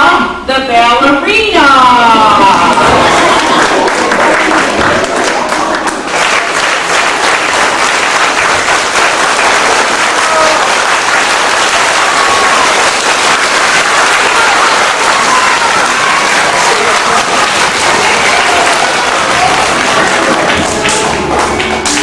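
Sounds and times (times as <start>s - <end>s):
audience clapping: 2.4s - 22.0s.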